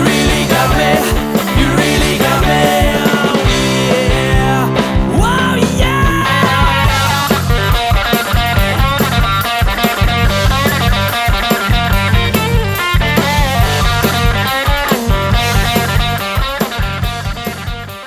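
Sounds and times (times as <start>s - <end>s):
drum kit steady beat: 0.0s - 18.0s
electric guitar: 0.0s - 18.0s.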